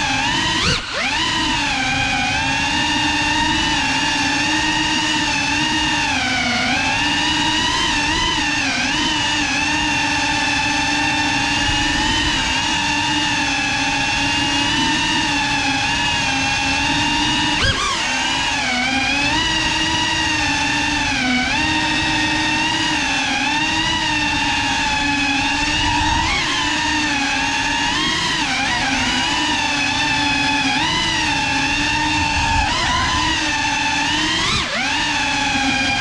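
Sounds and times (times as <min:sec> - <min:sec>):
drone motors whining: 0:00.0 - 0:36.0.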